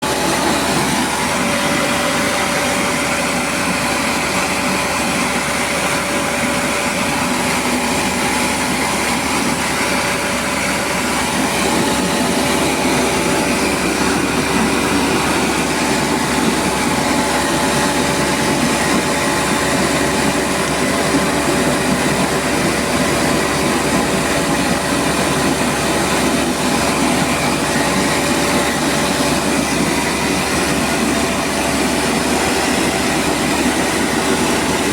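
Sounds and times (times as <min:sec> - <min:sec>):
milling machine droning: 0:00.0 - 0:34.9.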